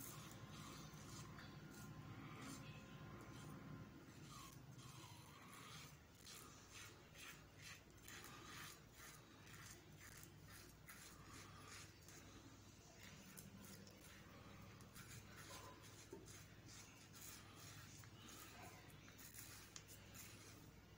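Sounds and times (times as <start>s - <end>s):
razor scraping stubble: 0.0s - 20.9s.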